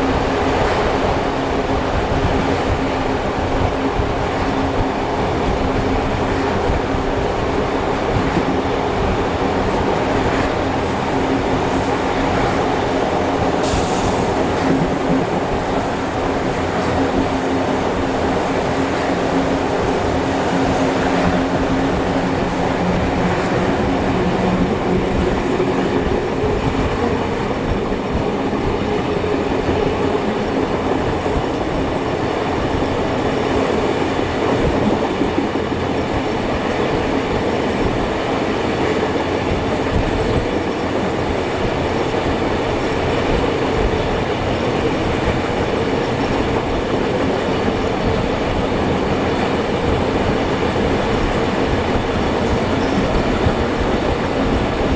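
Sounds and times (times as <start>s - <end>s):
clickety-clack over rail joints: 0.0s - 54.9s
train wheels running on rails: 0.0s - 54.9s.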